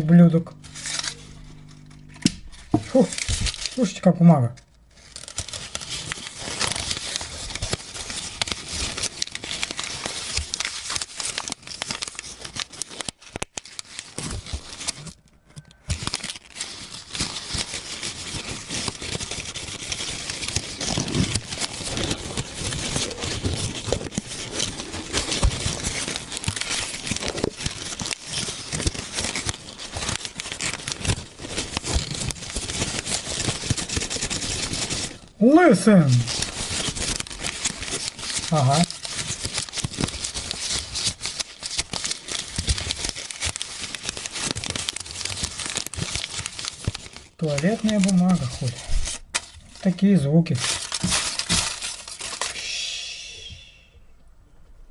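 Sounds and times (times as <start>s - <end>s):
paper rustling and crumpling: 0.0s - 4.1s, 4.9s - 52.7s.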